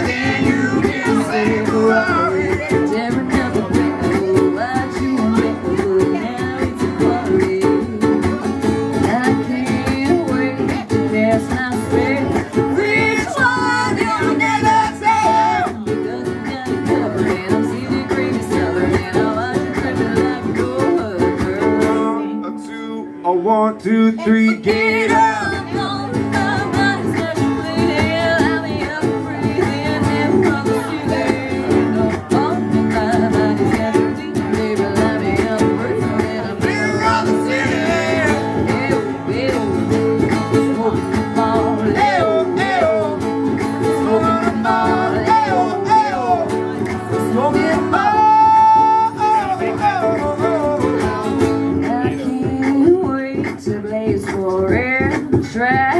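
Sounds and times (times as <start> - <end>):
acoustic guitar and ukulele strumming: 0.0 - 55.9
woman and man singing: 0.0 - 55.9.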